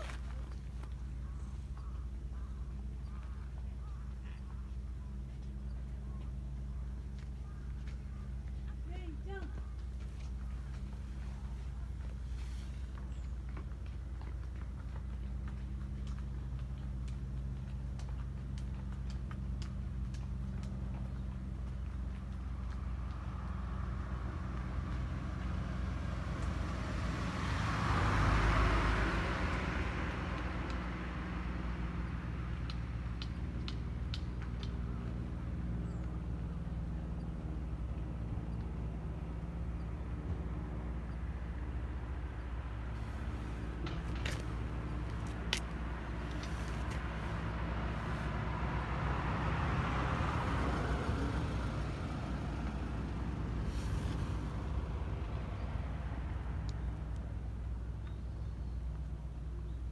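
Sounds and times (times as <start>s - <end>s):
low traffic rumble: 0.0s - 59.9s
vehicle passing by: 10.2s - 59.9s.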